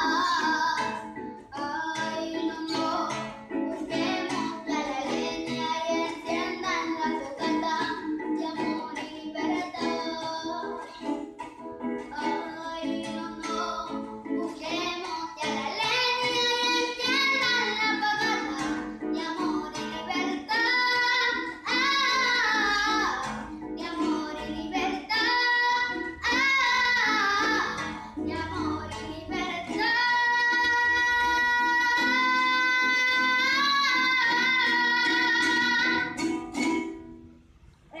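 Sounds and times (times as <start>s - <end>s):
woman singing: 0.0s - 11.2s, 12.0s - 36.4s
plucked strings: 0.0s - 38.0s.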